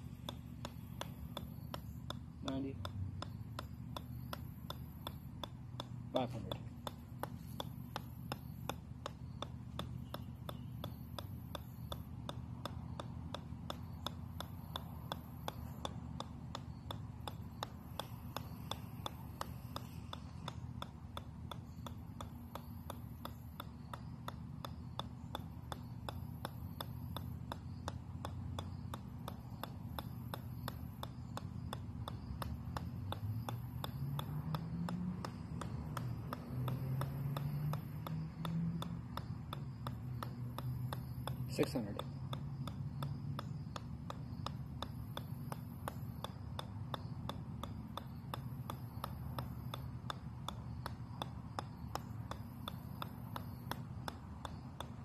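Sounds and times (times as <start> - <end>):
golf ball bouncing on metal: 0.0 - 55.0.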